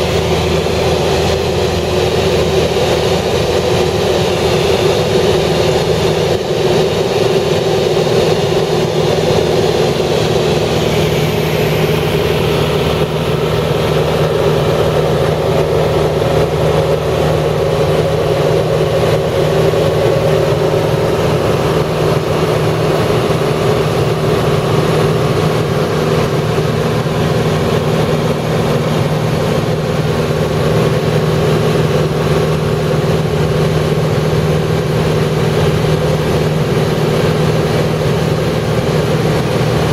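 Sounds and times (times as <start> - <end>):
loud mechanical hum: 0.0 - 39.9.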